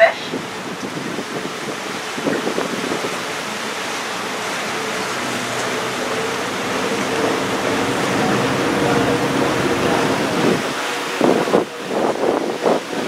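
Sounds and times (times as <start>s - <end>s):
boat engine humming: 0.0s - 13.0s
rush of wind and water: 0.0s - 13.0s.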